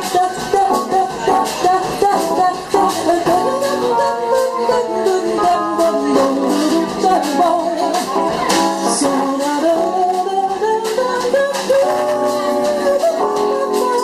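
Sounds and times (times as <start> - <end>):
double bass: 0.0 - 14.0
drums: 0.0 - 14.0
keyboards: 0.0 - 14.0
melodic lead line: 0.0 - 14.0.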